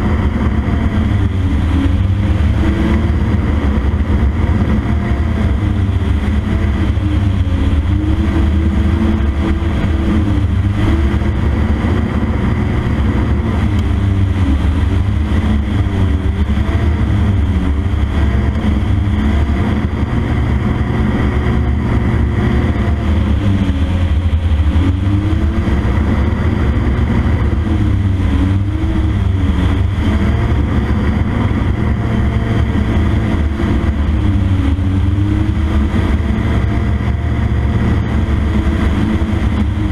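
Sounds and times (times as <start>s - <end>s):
aircraft engine and propeller: 0.0s - 39.9s
wind rushing: 0.0s - 39.9s.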